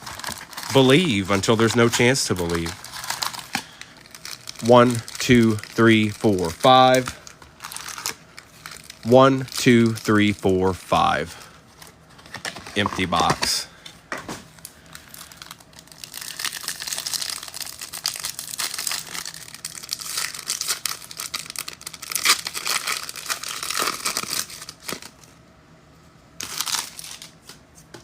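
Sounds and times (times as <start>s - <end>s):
foil wrappers crinkling: 0.0s - 10.1s, 11.1s - 25.4s, 26.4s - 27.6s.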